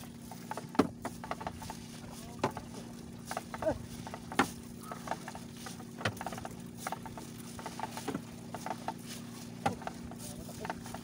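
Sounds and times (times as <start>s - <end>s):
steady low hum: 0.0s - 11.0s
net knocking against hull: 0.3s - 11.0s.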